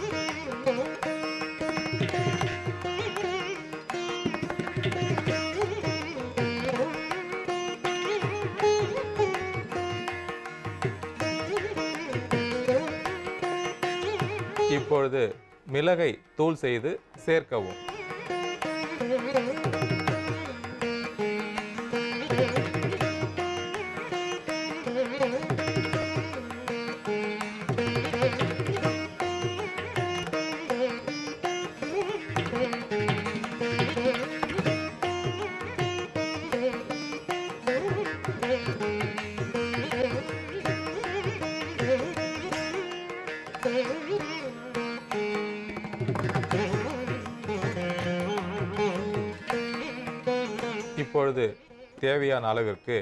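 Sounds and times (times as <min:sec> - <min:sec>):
plucked string melody: 0:00.0 - 0:15.8, 0:17.6 - 0:51.2.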